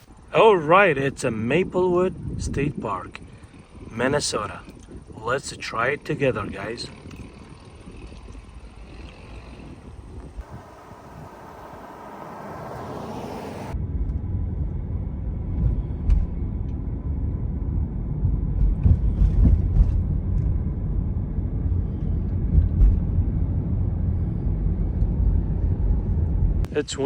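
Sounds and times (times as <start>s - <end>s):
wind buffeting microphone: 0.0s - 26.7s.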